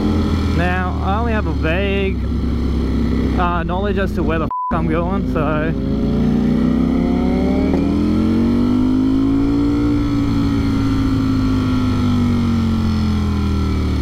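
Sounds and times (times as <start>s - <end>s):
motorcycle engine cruising: 0.0s - 14.0s
wind and road rumble: 0.0s - 14.0s.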